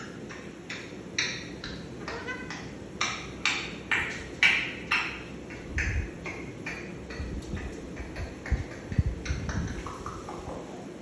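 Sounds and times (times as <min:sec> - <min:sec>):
parrot sharp notes: 0:00.7 - 0:10.6.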